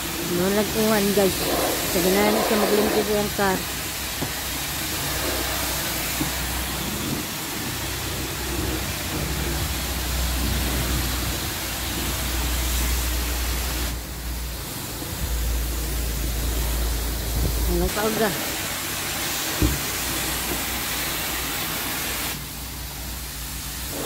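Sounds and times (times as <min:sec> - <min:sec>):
pressure washer spray hissing: 0:00.0 - 0:24.0.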